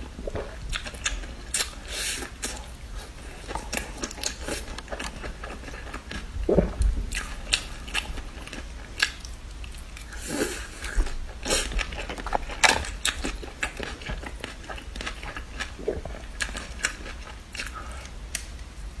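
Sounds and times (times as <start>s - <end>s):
person chewing crunchy greens: 0.0s - 18.5s.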